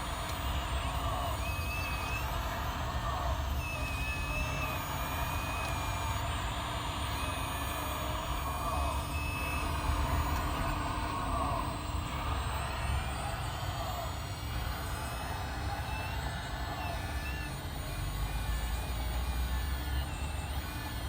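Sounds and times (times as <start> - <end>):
hydraulic pump whine: 0.0 - 21.0.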